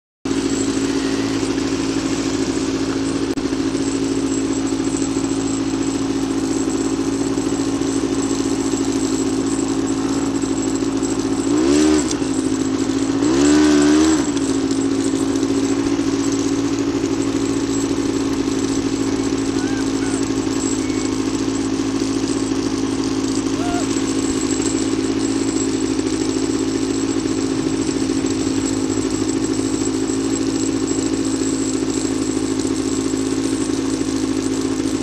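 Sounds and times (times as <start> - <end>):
quad bike engine idling and revving: 0.3 - 35.0.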